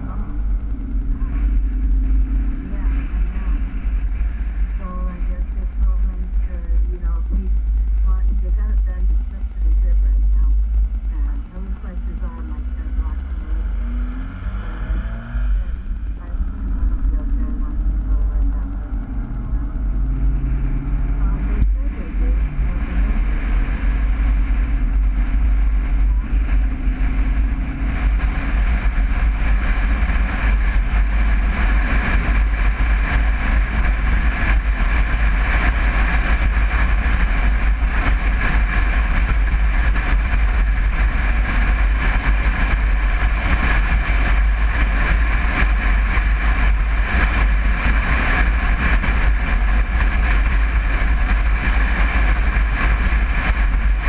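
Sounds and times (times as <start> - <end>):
road and wind noise: 0.0 - 54.0
van engine running: 0.0 - 54.0.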